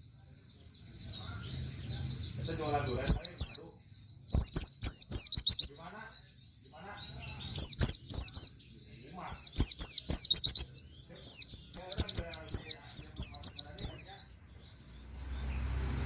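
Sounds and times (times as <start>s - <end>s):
bird singing high chirps: 0.0s - 16.0s.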